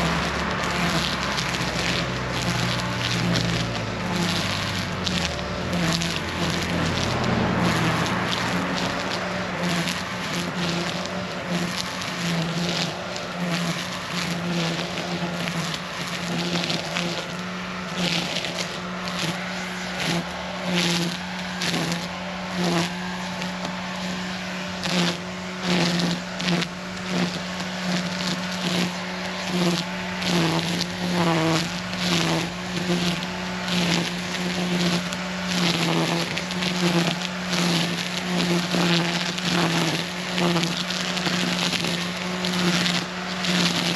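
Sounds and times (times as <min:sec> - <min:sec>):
power tool electric motor humming: 0:00.0 - 0:43.9
woody crunching: 0:00.0 - 0:43.9.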